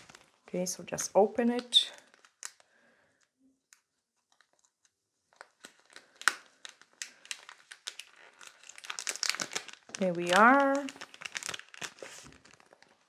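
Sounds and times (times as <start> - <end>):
plastic foil pouch crinkling: 0.0 - 0.5, 1.4 - 2.8, 4.3 - 13.0.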